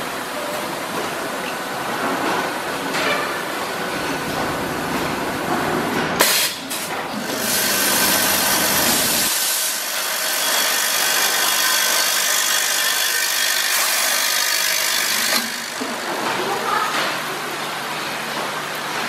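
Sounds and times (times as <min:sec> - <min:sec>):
packing machine running: 0:03.6 - 0:19.0.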